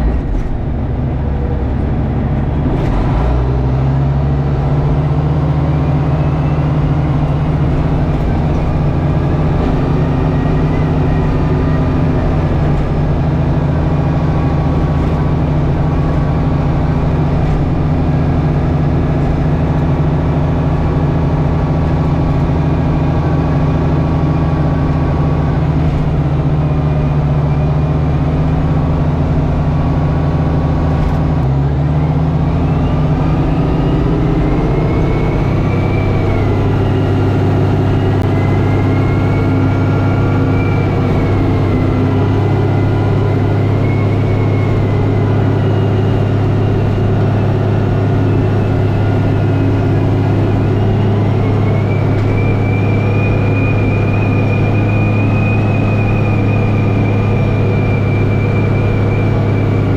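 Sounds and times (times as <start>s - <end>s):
tractor engine running: 0.0s - 59.9s
thin whine: 5.4s - 59.9s.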